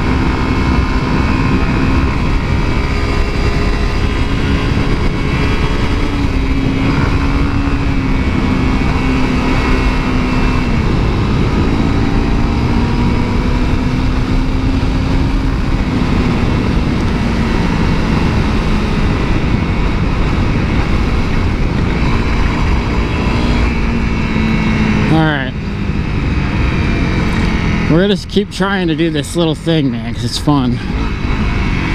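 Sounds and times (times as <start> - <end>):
motorcycle engine running: 0.0 - 31.9
wind rush on microphone: 0.0 - 31.9.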